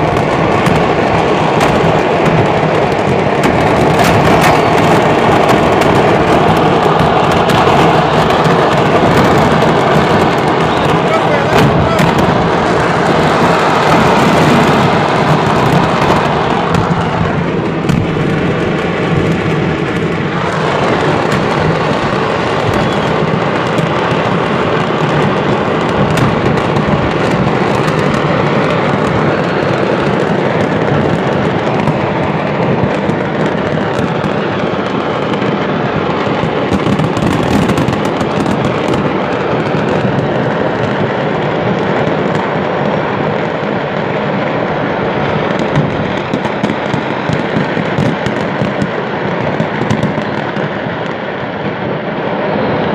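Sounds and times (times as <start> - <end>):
fireworks blasts and crackling: 0.0 - 52.9
sharp firework cracks: 0.0 - 52.9.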